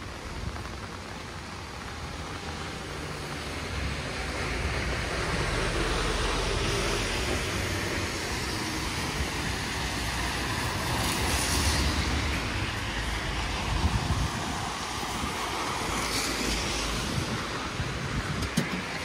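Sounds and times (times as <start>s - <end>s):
passing vehicles rumbling: 0.0s - 19.0s
rain hiss: 0.0s - 19.0s
tyres swishing on wet road: 0.0s - 19.0s.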